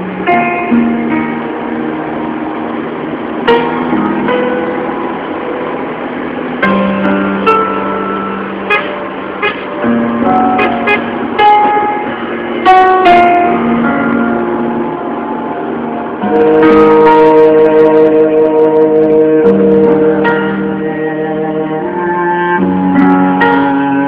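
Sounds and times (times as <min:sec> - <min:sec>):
mellow music with held chords: 0:00.0 - 0:24.0.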